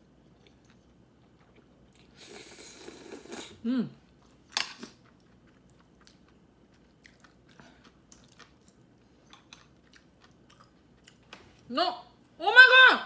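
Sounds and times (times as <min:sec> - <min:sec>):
chewing with small crunches: 0:00.0 - 0:02.2, 0:02.8 - 0:12.3.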